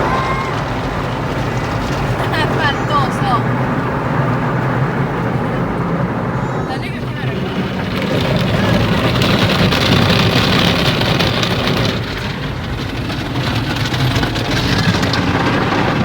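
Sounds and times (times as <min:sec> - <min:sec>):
car wash water spray: 0:00.0 - 0:16.0.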